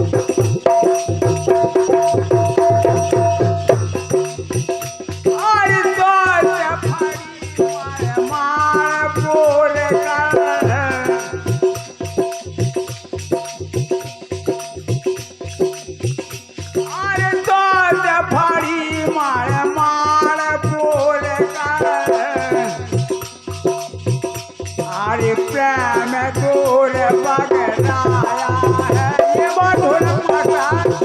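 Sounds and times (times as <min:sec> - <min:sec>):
hand drum beat: 0:00.0 - 0:31.0
jingling rattle: 0:00.0 - 0:31.0.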